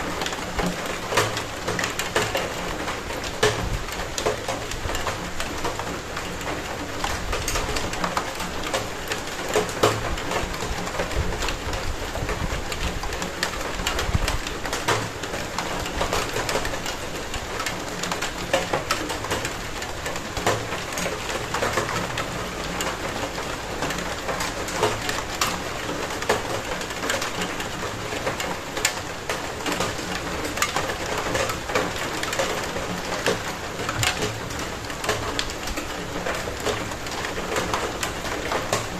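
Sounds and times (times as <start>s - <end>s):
rain pattering on hard surface: 0.0s - 38.9s.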